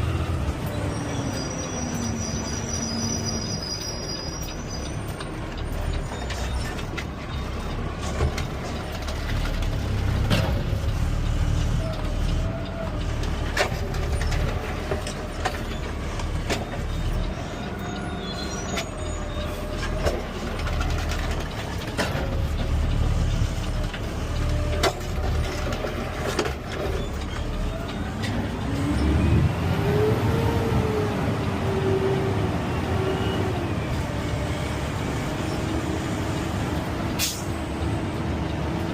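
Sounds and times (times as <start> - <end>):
garbage truck engine rumble: 0.0 - 38.9.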